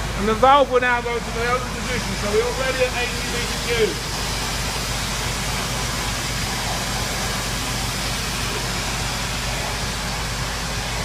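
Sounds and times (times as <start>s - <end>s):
water rushing through pipes: 0.0s - 11.0s.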